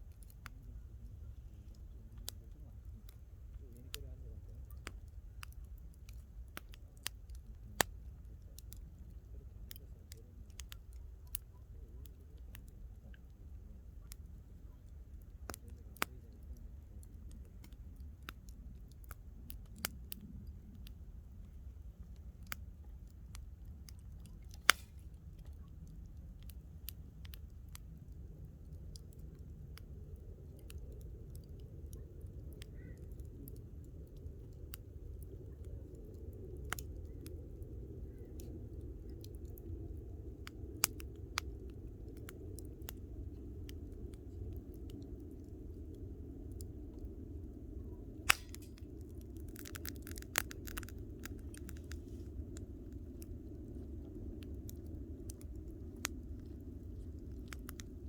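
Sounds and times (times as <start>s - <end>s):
campfire crackling and popping: 0.0s - 58.0s
low steady rumble: 0.0s - 58.0s.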